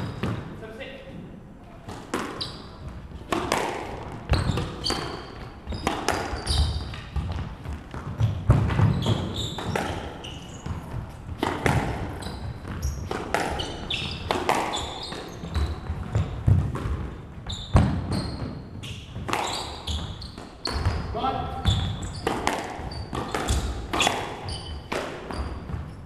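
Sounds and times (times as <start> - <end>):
shoes squeaking: 1.7 - 26.0
squash ball cracking off rackets: 1.8 - 21.0, 21.8 - 25.9.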